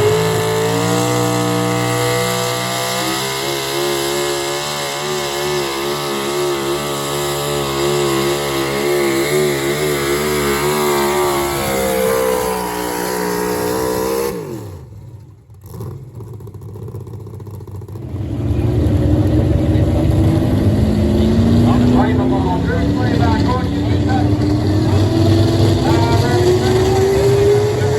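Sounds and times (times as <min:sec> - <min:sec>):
truck engine running hard: 0:00.0 - 0:15.3, 0:17.4 - 0:27.9.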